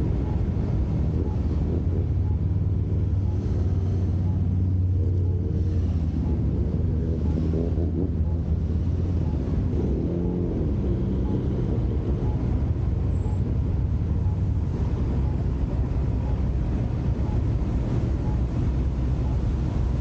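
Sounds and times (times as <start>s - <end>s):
car engine rumble: 0.0s - 20.0s
road noise: 0.0s - 20.0s
wind on microphone: 0.0s - 20.0s.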